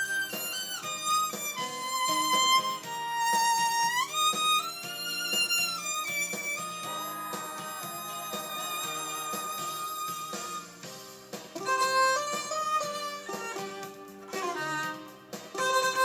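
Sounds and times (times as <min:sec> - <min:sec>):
muted violin melody: 0:00.0 - 0:16.0.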